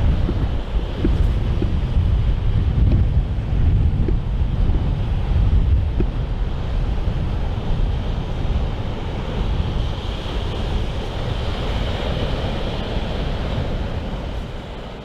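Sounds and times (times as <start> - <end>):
waves rushing: 0.0 - 15.0
wind buffeting microphone: 0.0 - 15.0.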